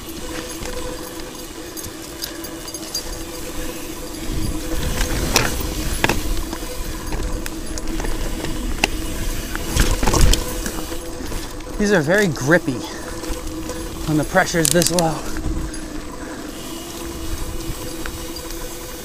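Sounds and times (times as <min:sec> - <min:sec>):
bike tyres rumbling on dirt: 0:00.0 - 0:19.0
faint steady hum: 0:00.0 - 0:19.0.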